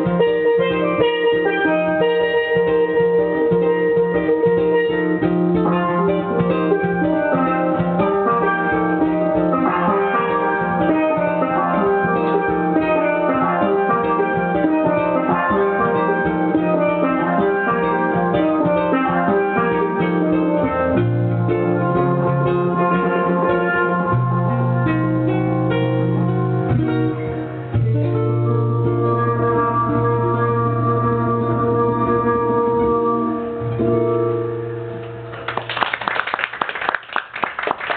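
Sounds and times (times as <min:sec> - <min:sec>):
steel pan notes: 0:00.0 - 0:35.5
low bass tones: 0:01.5 - 0:35.4.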